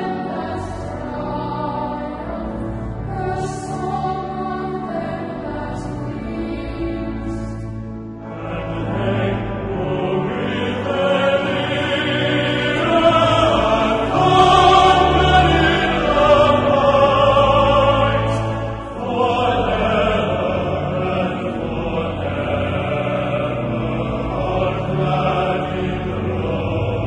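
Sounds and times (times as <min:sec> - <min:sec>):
choir singing a hymn: 0:00.0 - 0:27.0.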